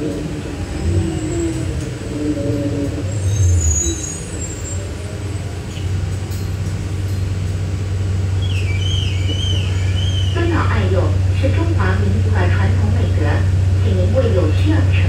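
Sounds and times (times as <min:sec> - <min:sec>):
road noise: 0:00.0 - 0:15.0
trolleybus cabin hum: 0:00.0 - 0:15.0.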